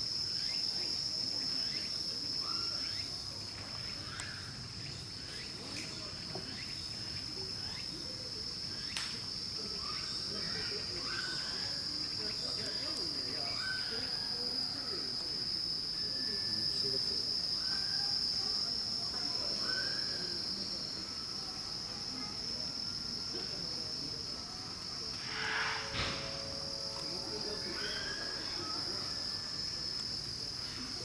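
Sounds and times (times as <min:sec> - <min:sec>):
insects stridulating chorus: 0:00.0 - 0:31.0.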